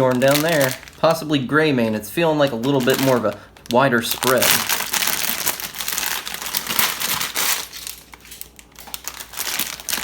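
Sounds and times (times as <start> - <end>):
plastic packaging crinkling: 0.0 - 1.5, 2.2 - 10.0.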